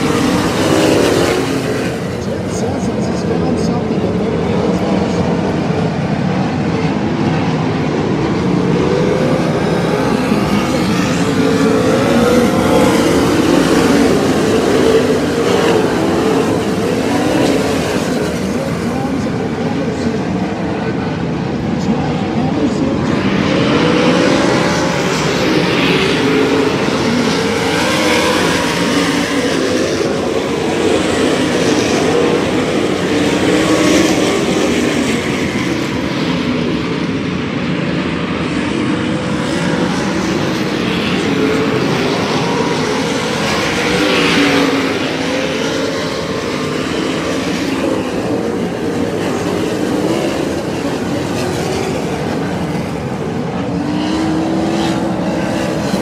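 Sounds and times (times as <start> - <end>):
racing car engines droning: 0.0 - 56.0.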